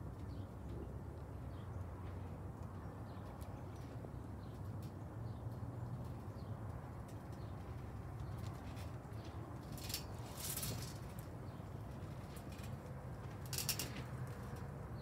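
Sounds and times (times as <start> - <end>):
crackling rustle: 0.0 - 15.0.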